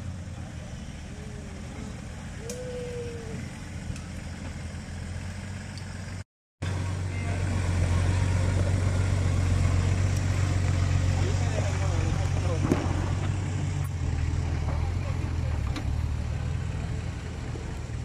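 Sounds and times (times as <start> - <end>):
off-road vehicle engines at low revs: 0.0 - 18.0.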